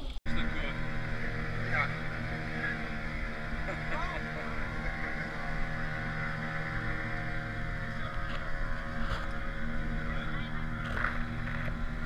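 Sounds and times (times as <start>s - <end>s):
motorboat engine droning: 0.0s - 12.0s
water rushing along hull: 0.3s - 12.0s.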